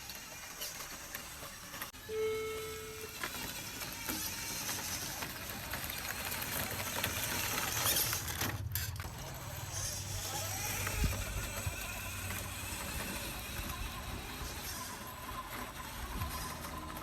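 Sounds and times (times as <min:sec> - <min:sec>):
toy excavator motors whining: 0:00.0 - 0:17.0.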